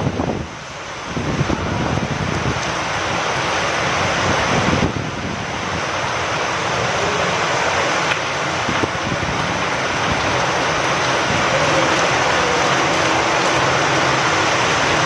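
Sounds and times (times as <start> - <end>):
rain falling: 0.0 - 15.0
wind: 0.0 - 15.0.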